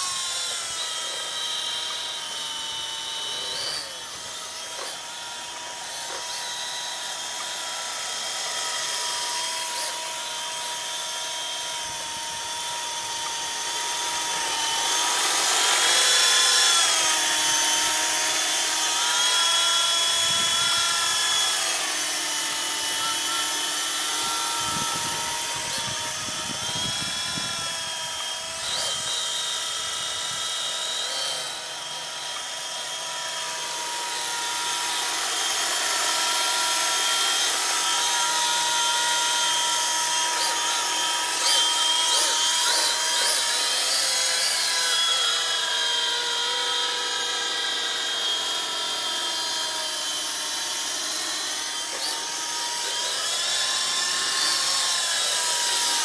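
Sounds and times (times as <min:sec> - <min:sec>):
rc helicopter motor whine: 0:00.0 - 0:56.0.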